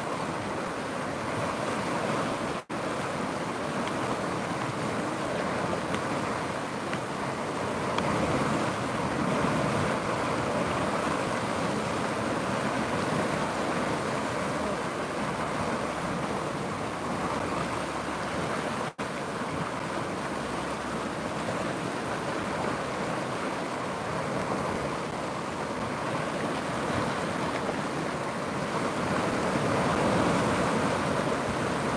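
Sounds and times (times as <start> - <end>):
river flowing: 0.0 - 31.9.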